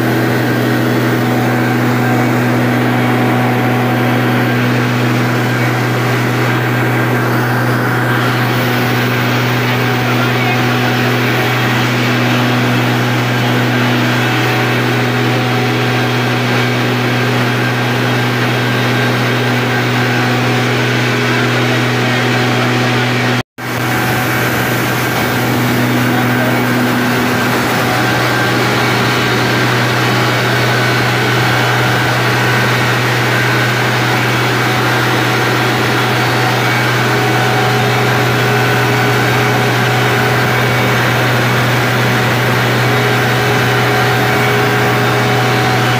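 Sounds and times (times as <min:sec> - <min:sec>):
diesel generator running: 0:00.0 - 0:45.9.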